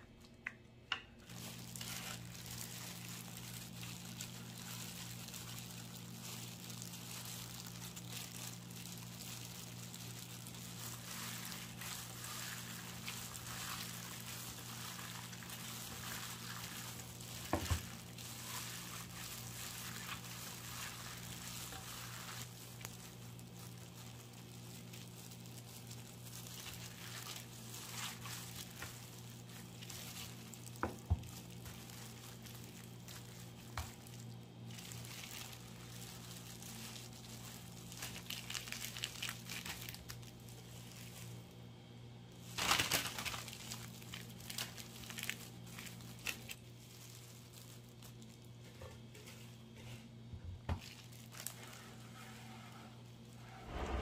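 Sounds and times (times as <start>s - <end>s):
plastic gloves crinkling: 0.1s - 54.0s
paper liner rustling: 1.2s - 41.3s, 42.4s - 49.3s.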